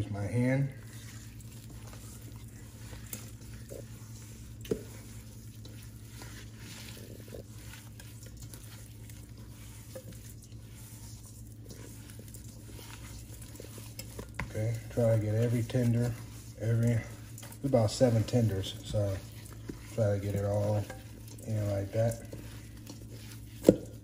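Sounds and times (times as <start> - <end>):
chicken squishing in seasoning: 0.0 - 24.0
low steady hum: 0.0 - 24.0.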